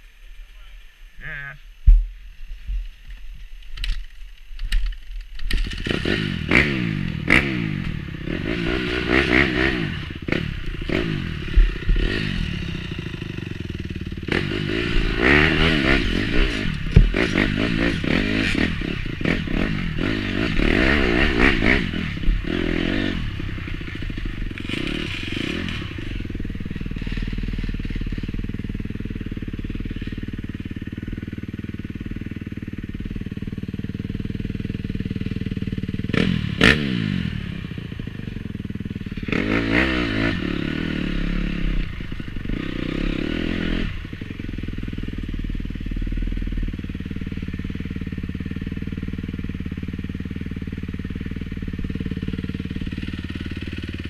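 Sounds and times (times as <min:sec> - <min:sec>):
motorcycle engine revving: 0:04.9 - 0:54.0.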